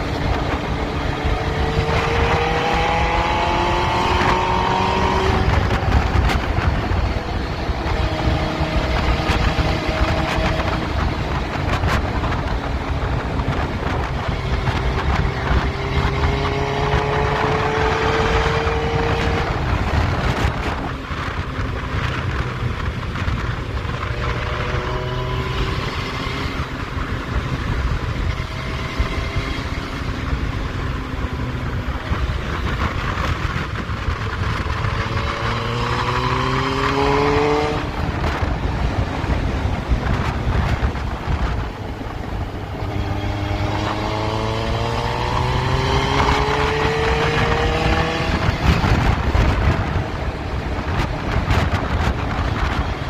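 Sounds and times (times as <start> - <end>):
motorcycle engine accelerating: 0.0 - 53.0
wind and road rush: 0.0 - 53.0.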